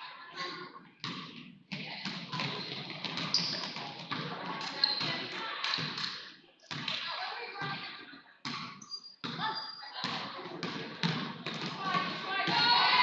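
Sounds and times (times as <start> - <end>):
ball bouncing on hardwood court: 1.0 - 13.0.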